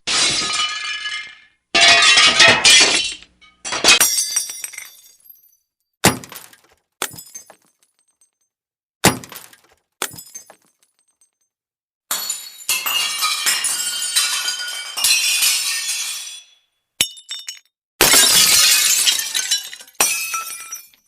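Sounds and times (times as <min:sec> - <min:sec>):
dense glass shattering: 0:00.0 - 0:08.3, 0:12.1 - 0:21.0
glass smashing: 0:00.0 - 0:08.4, 0:09.0 - 0:11.4, 0:12.1 - 0:21.0.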